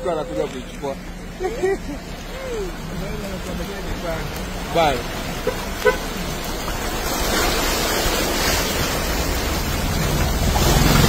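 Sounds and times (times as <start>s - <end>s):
heavy rain: 0.0s - 11.0s
large vehicle engine hum: 0.0s - 11.0s
vehicles splashing through floodwater: 0.0s - 11.0s.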